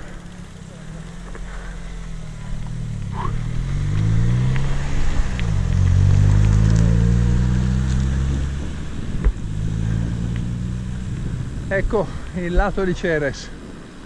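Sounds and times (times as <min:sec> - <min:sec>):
small motorbike engine: 0:00.0 - 0:11.6.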